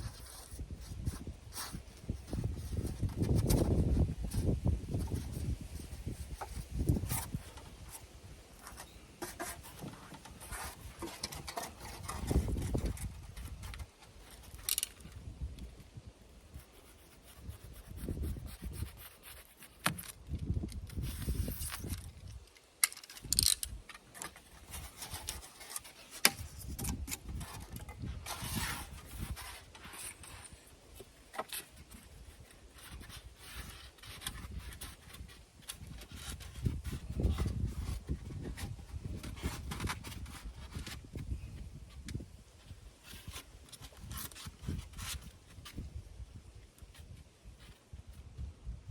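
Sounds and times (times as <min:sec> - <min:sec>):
scrapes and rustles: 0:00.0 - 0:48.9.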